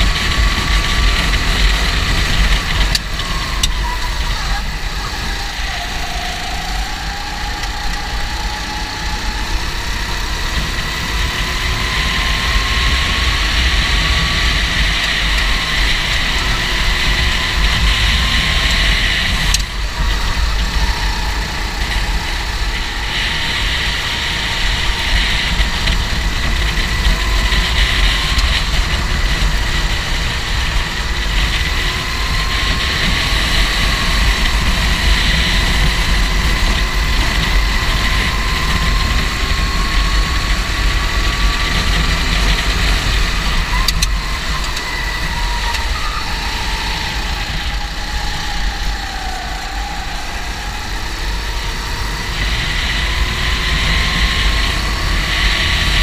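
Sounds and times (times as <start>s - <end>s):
kart engines droning: 0.0s - 56.0s.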